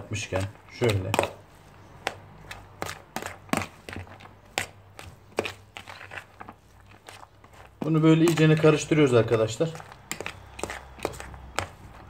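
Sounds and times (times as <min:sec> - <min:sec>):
fork scraping plastic tub: 0:00.2 - 0:12.0.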